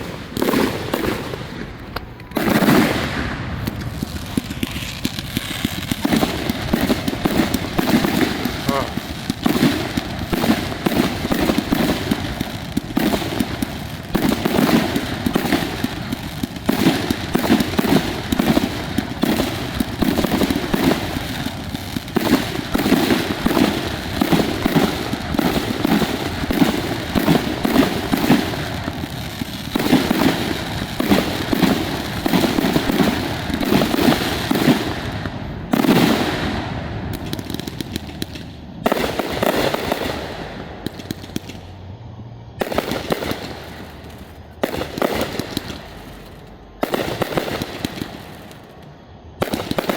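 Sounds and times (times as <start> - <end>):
fireworks booming and crackling: 0.0 - 49.9.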